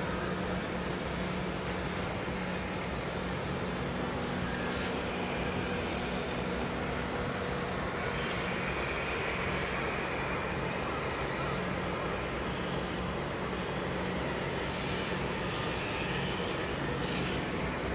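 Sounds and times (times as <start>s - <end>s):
distant tugboat diesel engines: 0.0s - 17.9s
faint higher whine: 0.0s - 17.9s.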